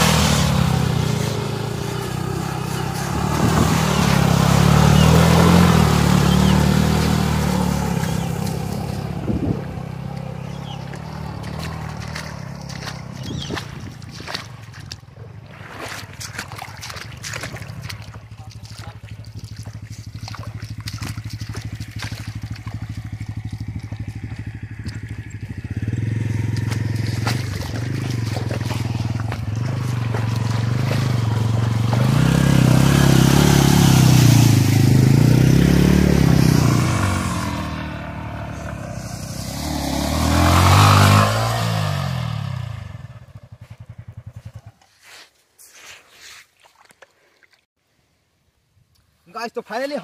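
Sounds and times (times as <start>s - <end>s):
motorcycles revving: 0.0s - 15.2s, 16.9s - 44.7s
water splashing from wheels: 0.0s - 47.7s.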